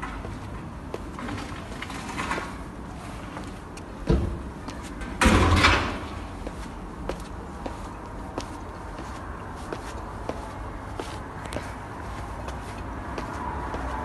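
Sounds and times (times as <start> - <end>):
footsteps on concrete stairs: 0.0 - 2.6, 3.2 - 14.0.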